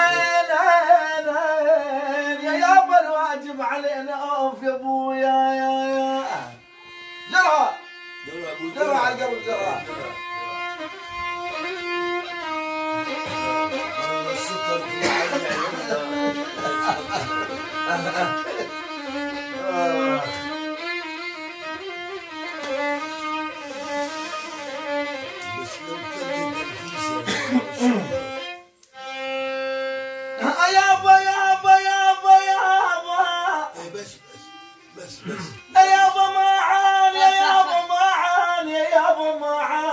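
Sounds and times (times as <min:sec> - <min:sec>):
solo violin slow melody: 0:05.4 - 0:39.9.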